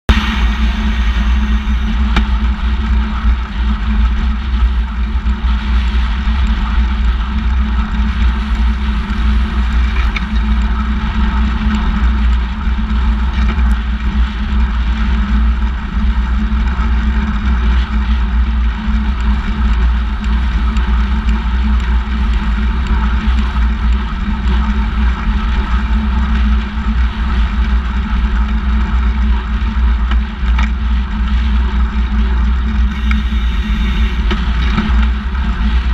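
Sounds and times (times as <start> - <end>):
wind buffeting microphone: 0.0 - 35.9
tyres rolling on asphalt: 0.1 - 35.9.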